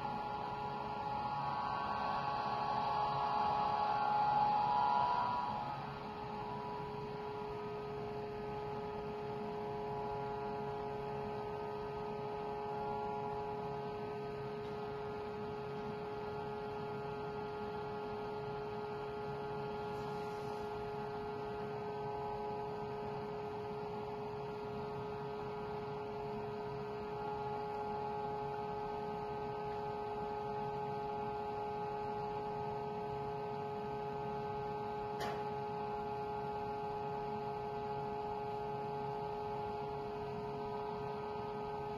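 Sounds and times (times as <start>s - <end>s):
steady hum of held tones: 0.0s - 41.9s.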